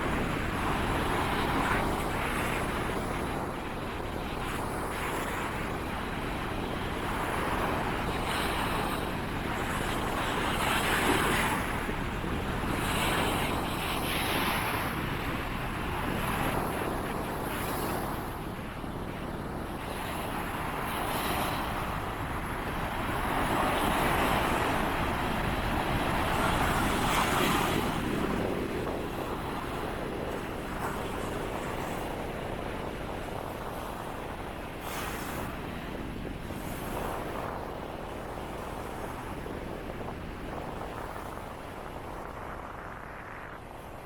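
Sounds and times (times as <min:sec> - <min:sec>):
surf washing on beach: 0:00.0 - 0:44.0
wind rumbling on microphone: 0:00.0 - 0:44.0.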